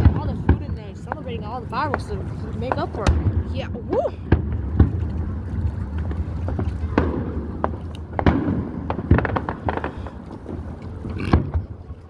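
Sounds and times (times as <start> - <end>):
fireworks bursting with bangs: 0.0 - 5.4, 6.0 - 11.7
fireworks crackling: 0.0 - 11.4.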